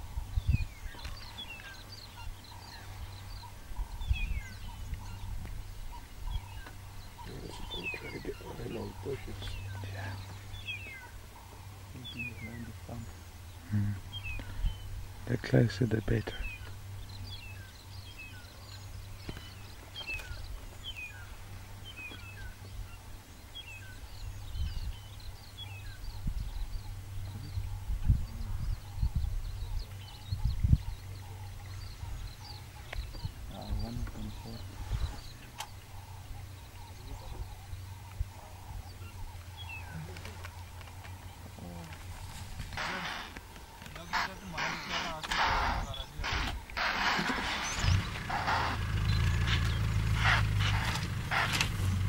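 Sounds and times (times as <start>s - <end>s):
birds chirping and whistling: 0.0s - 15.2s, 16.0s - 52.0s.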